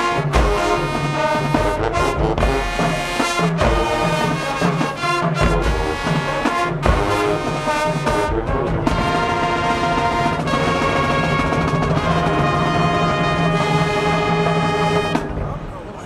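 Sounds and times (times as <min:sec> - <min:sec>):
brass playing full chords: 0:00.0 - 0:15.4
heavy drum hits: 0:00.3 - 0:04.6, 0:05.3 - 0:15.6.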